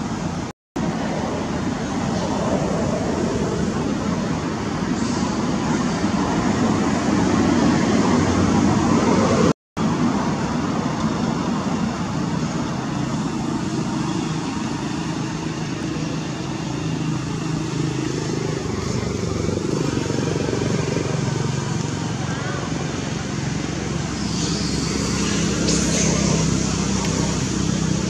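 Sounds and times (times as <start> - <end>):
engine hum: 0.0 - 28.0
traffic rumble: 0.0 - 28.0.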